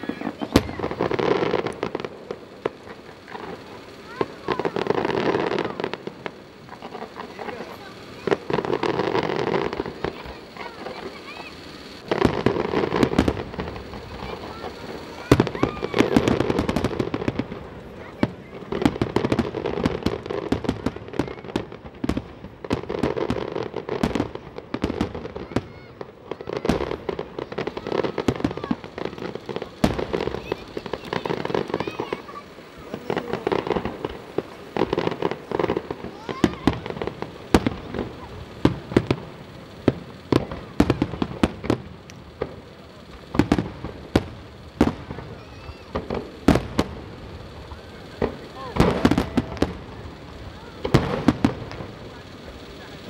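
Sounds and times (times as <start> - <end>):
firework shells bursting: 0.0 - 53.0.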